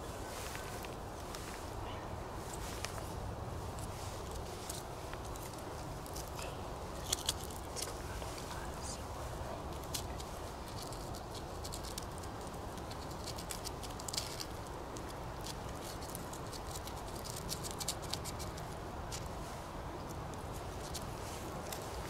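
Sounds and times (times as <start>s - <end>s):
low wind rumble: 0.0s - 22.0s.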